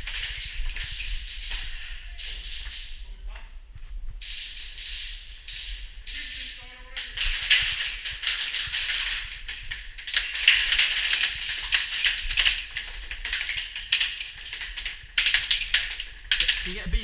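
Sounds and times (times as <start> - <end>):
airsoft guns firing in bursts: 0.0 - 3.1, 4.2 - 17.0.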